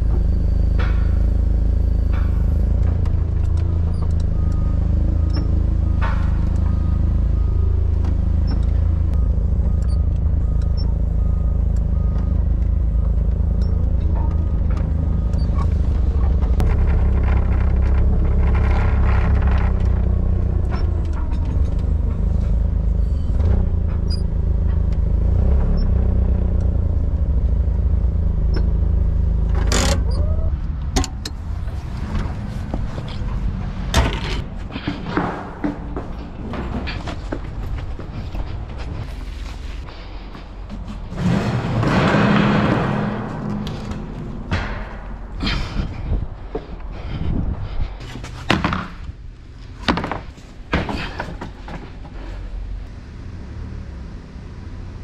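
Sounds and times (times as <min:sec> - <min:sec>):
rattles and clunks: 0:00.0 - 0:53.4
forklift engine running: 0:00.0 - 0:55.0.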